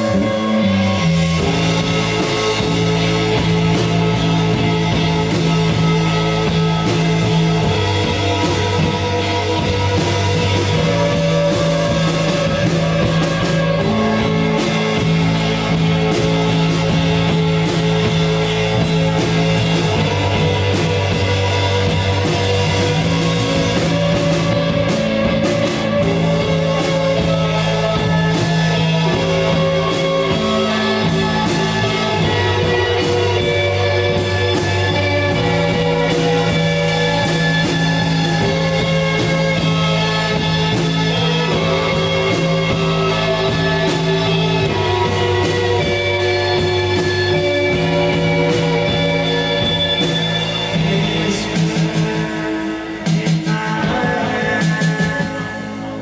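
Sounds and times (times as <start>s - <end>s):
drums: 0.0s - 56.0s
electric guitar: 0.0s - 56.0s
long held bass notes: 0.0s - 56.0s
rock band playing: 0.0s - 56.0s.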